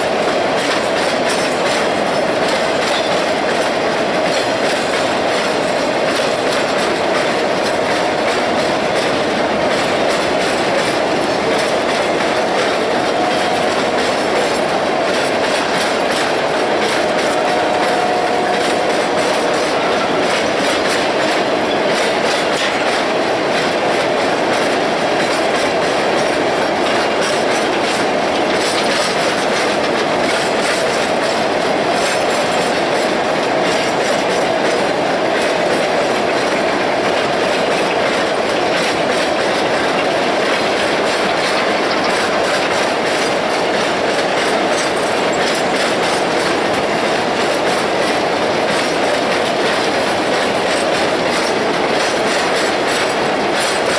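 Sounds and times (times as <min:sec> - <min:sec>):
freight train wheels clicking: 0:00.0 - 0:53.9
train rumble and rattle: 0:00.0 - 0:53.9.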